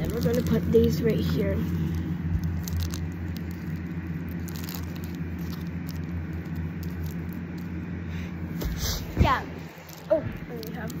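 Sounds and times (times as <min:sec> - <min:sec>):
cellophane wrappers crinkling: 0:00.0 - 0:11.0
steady low hum: 0:00.0 - 0:11.0.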